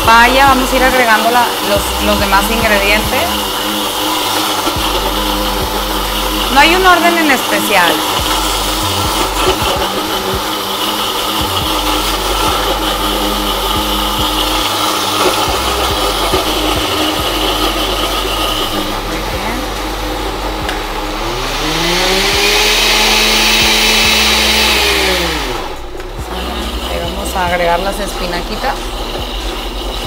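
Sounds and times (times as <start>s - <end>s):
blender running: 0.0s - 30.0s.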